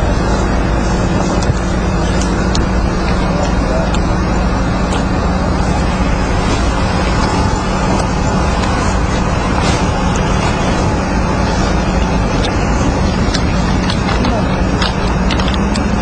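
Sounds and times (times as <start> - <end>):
low hum: 0.0 - 16.0
rushing noise: 0.0 - 16.0.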